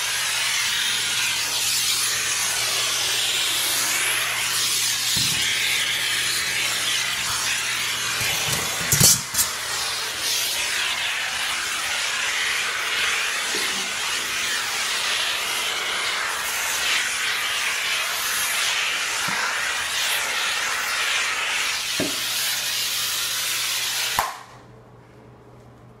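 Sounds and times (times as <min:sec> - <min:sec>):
steam cleaner hissing: 0:00.0 - 0:24.5.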